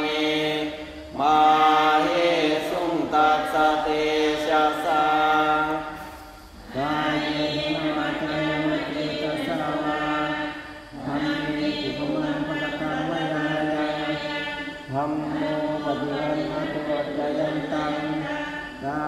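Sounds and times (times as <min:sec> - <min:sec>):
group chanting in unison: 0:00.0 - 0:19.0.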